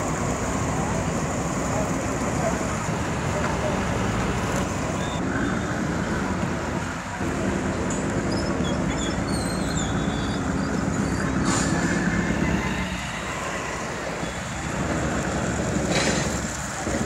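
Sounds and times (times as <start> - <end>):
motorcycle engines: 0.0 - 17.0
road noise: 0.0 - 17.0.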